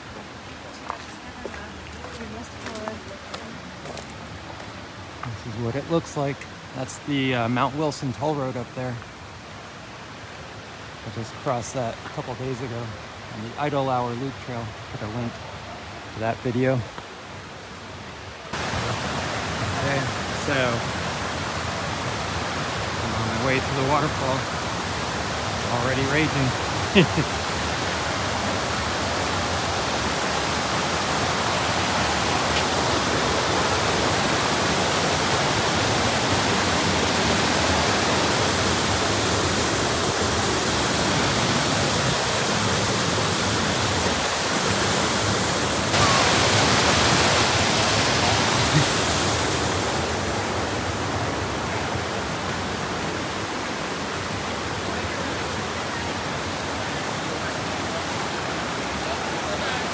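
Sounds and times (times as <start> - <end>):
mountain creek rushing: 0.0 - 59.9.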